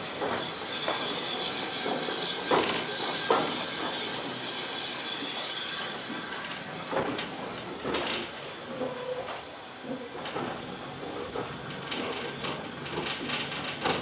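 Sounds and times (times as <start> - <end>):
train running on track: 0.0 - 14.0.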